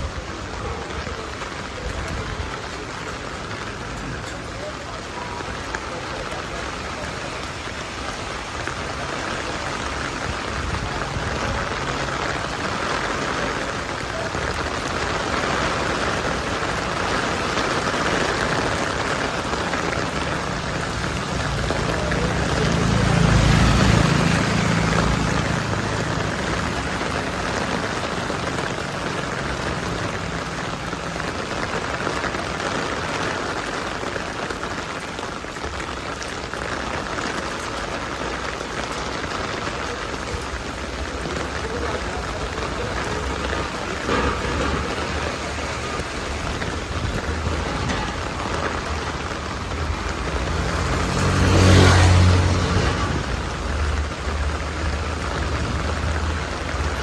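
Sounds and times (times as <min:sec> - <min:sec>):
steady rain on street: 0:00.0 - 0:57.0
vehicle swishing past on wet road: 0:00.0 - 0:57.0.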